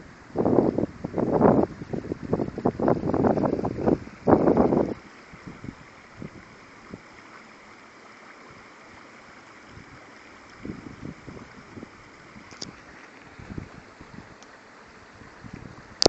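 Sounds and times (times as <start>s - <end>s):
wind buffeting microphone: 0.0s - 7.1s, 9.7s - 16.0s
rainwater runoff flowing: 0.0s - 16.0s.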